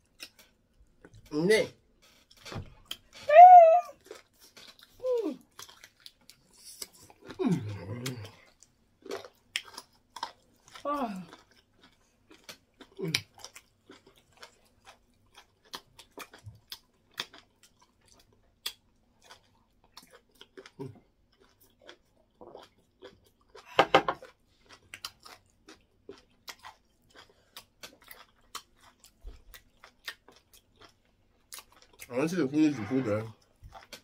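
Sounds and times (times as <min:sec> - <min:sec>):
wet chewing and lip smacks: 0:00.0 - 0:01.3, 0:04.0 - 0:32.1, 0:33.4 - 0:34.0.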